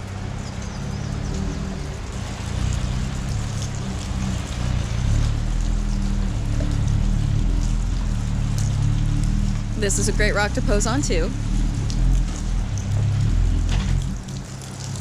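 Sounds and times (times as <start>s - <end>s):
water trickling and running: 0.0s - 15.0s.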